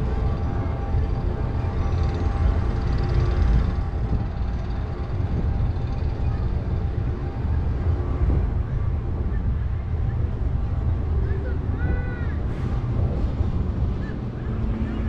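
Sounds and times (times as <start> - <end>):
roller coaster lift rumbling: 0.0 - 15.0.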